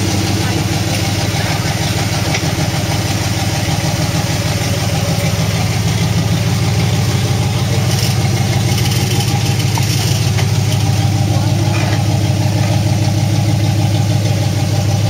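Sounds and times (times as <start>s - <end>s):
truck engine running at low revs: 0.0s - 15.0s.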